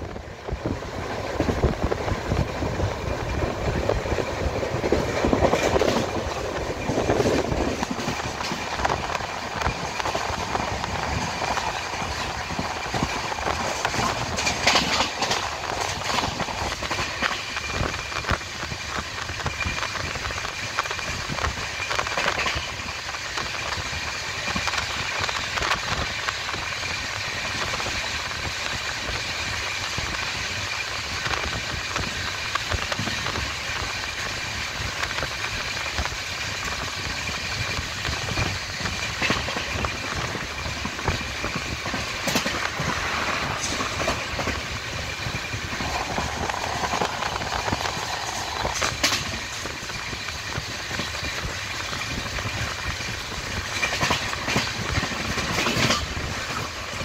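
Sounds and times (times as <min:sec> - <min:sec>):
train wheels rumbling and rattling: 0:00.0 - 0:57.0
sharp clicks and clacks of wheels: 0:03.1 - 0:57.0.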